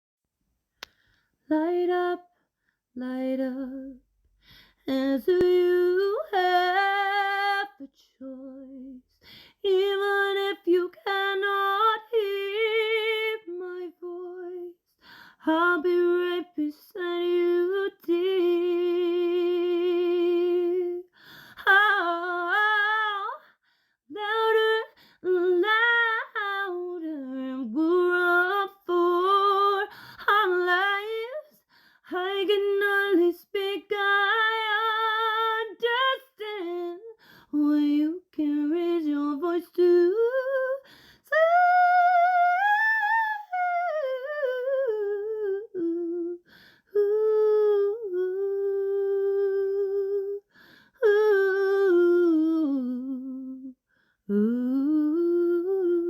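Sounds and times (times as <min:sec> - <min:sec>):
woman singing wordless melody: 0:01.4 - 0:04.1, 0:04.8 - 0:14.8, 0:15.4 - 0:56.0.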